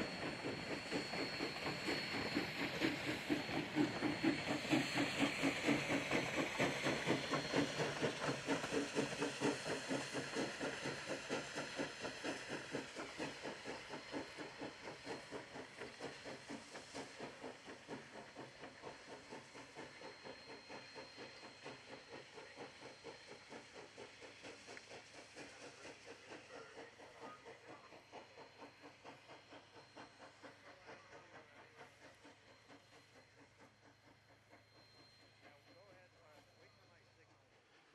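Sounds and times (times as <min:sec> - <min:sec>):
steam hissing: 0:00.0 - 0:37.3
steam locomotive chuffing: 0:00.0 - 0:37.9.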